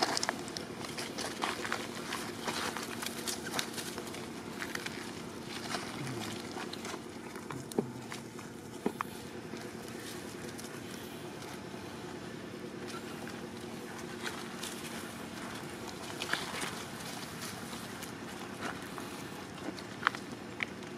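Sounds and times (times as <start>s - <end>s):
dry leaves crackling and rustling: 0.0s - 20.6s.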